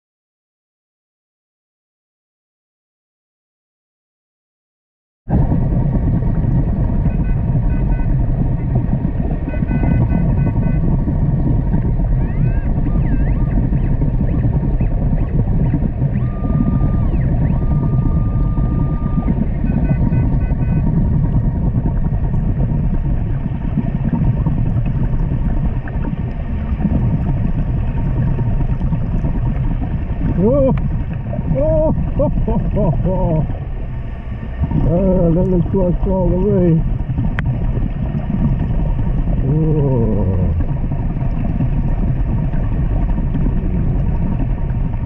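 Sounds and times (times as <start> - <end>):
low underwater rumble: 5.3 - 45.0.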